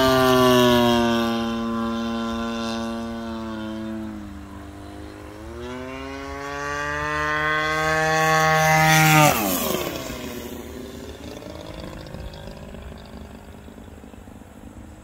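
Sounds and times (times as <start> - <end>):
model plane engine passing: 0.0 - 15.0.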